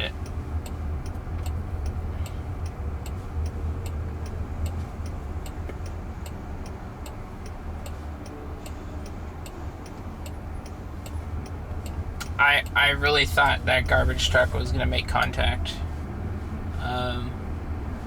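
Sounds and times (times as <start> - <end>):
car rumble: 0.0 - 18.0
turn signal ticking: 0.0 - 18.0.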